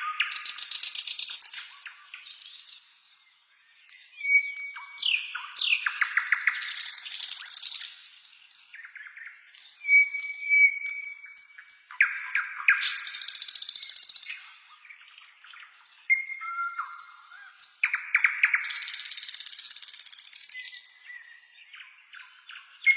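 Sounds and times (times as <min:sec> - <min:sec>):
birds whistling: 0:03.5 - 0:22.9.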